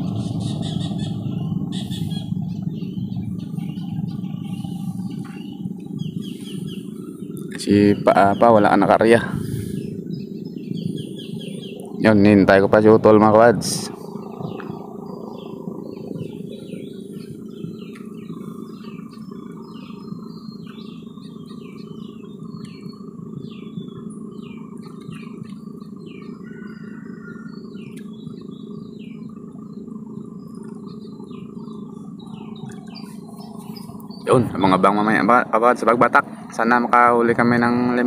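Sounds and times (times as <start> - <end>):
small birds chirping: 0.0 - 38.0
steady low hum: 0.0 - 38.0.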